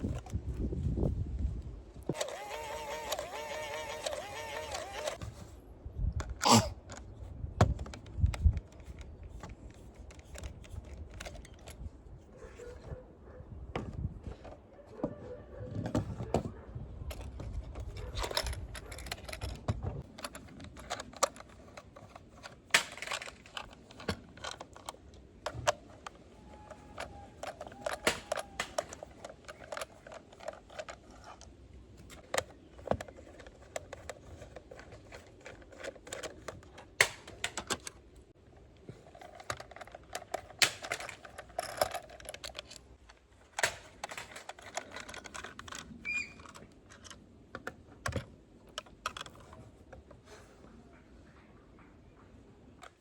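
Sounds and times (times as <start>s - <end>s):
plastic toy parts clicking and rattling: 0.0s - 0.7s, 2.1s - 5.2s, 6.2s - 11.9s, 17.1s - 50.2s.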